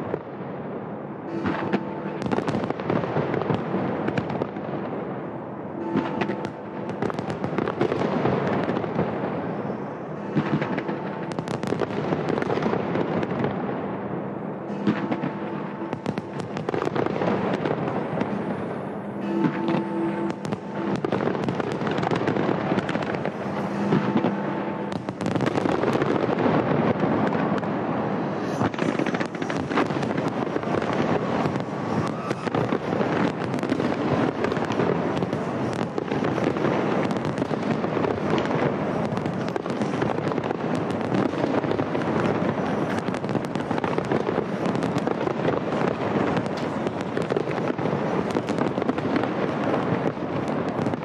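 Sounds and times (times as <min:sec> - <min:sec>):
fireworks bangs: 0:00.0 - 0:51.0
fireworks bursting and crackling: 0:00.0 - 0:51.0.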